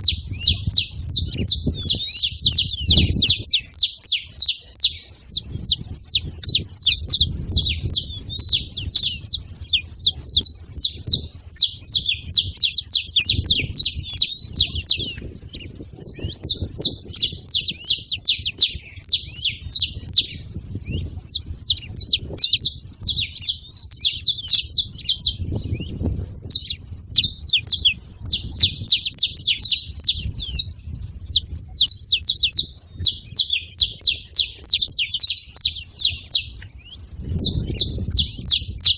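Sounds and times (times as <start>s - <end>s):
flock of finches chirping: 0.0s - 38.9s.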